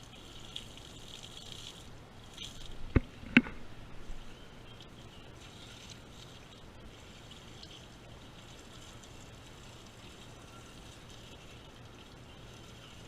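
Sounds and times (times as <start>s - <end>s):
water pouring and trickling: 0.0s - 13.0s
low hum: 1.8s - 13.0s.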